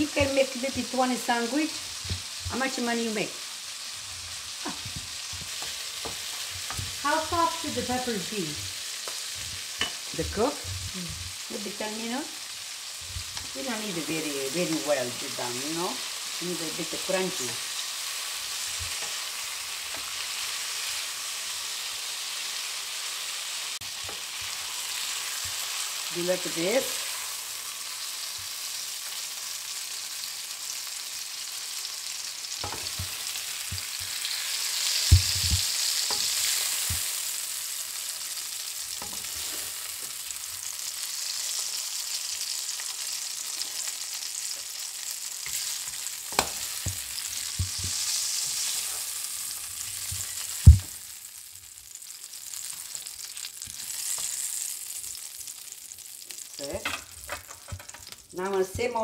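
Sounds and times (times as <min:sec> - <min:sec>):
peppers sizzling in hot oil: 0:00.0 - 0:59.0.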